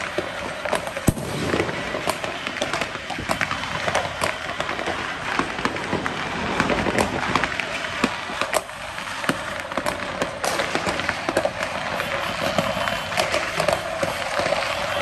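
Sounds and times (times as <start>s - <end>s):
firecrackers banging: 0.0s - 15.0s
fireworks hiss: 0.0s - 15.0s.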